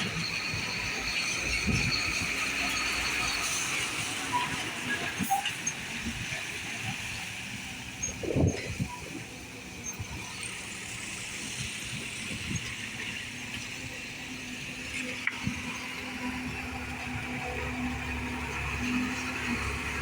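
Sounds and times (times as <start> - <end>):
steady engine hum: 0.0 - 20.0
traffic rumble and hiss: 0.0 - 20.0.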